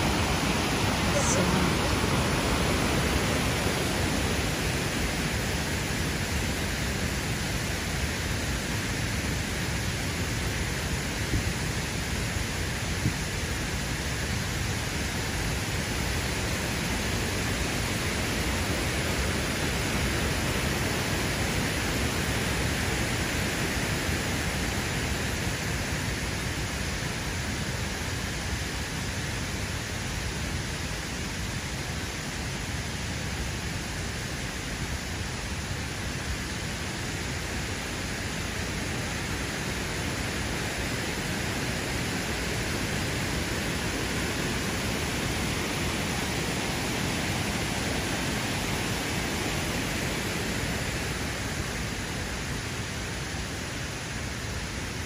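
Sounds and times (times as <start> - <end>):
river water rushing: 0.0 - 10.6, 14.4 - 55.0.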